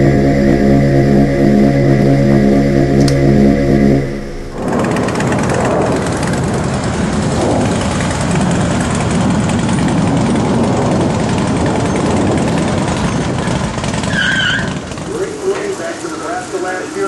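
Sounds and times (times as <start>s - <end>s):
vehicle engine running loudly: 0.0s - 17.0s.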